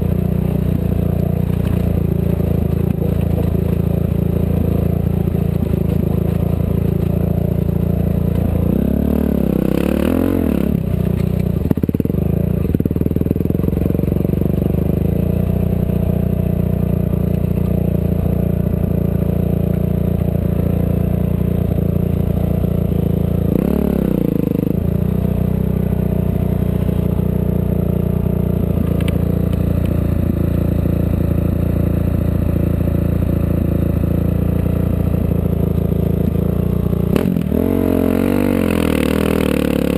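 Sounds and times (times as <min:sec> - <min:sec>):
off-road vehicle engine running hard: 0:00.0 - 0:39.9.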